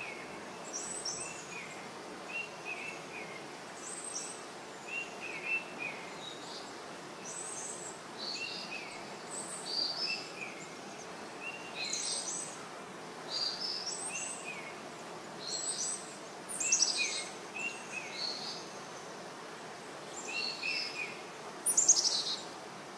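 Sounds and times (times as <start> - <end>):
faint hiss: 0.0 - 22.9.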